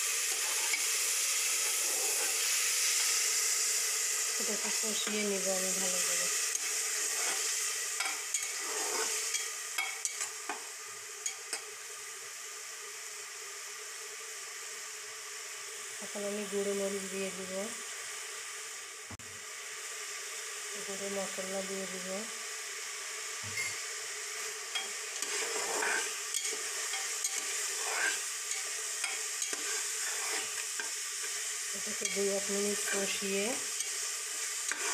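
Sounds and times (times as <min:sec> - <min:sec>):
spices sizzling in a pan: 0:00.0 - 0:34.9.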